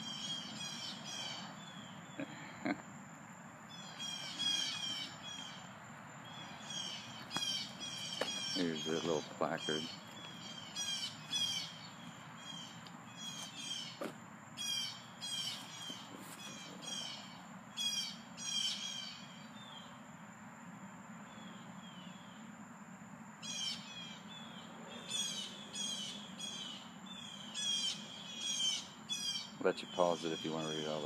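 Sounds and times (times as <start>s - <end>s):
birds chirping: 0.0s - 2.8s, 3.4s - 20.0s, 23.4s - 31.0s.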